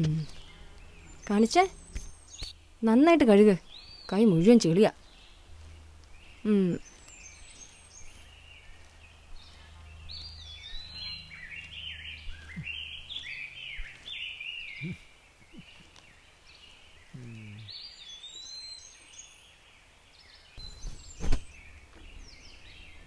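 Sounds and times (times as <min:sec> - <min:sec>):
birds chirping: 0:00.0 - 0:23.0
low steady hum: 0:00.0 - 0:23.0.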